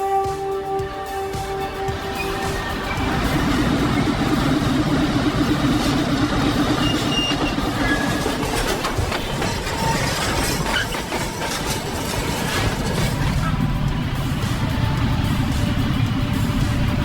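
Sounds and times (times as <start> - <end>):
freight train on rails: 0.0 - 17.0.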